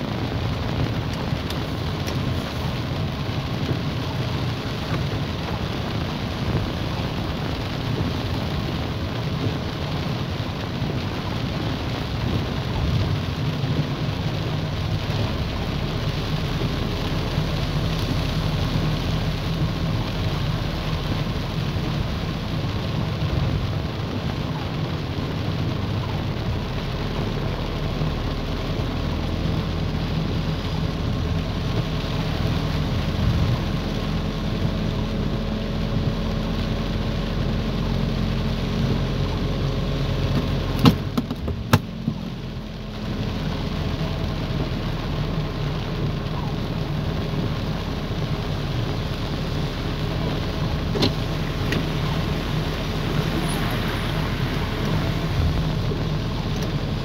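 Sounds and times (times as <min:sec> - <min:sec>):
car engine rumble: 0:00.0 - 0:57.0
heavy rain on car: 0:00.0 - 0:57.0
tyres on wet road: 0:00.0 - 0:57.0.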